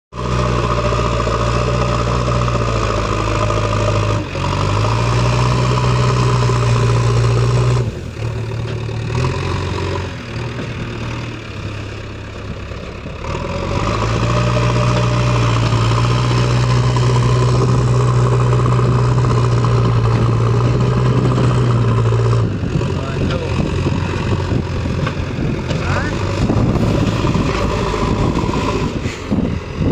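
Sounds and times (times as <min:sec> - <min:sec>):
diesel engine running: 0:00.1 - 0:29.9.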